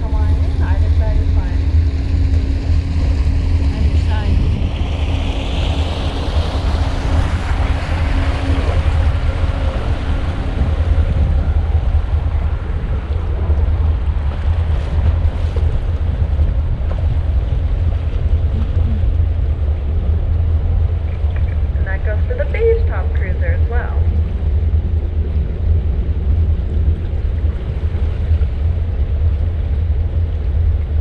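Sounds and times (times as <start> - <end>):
boat rumble: 0.0 - 31.0
water along hull: 0.0 - 31.0
wind noise on microphone: 0.0 - 31.0.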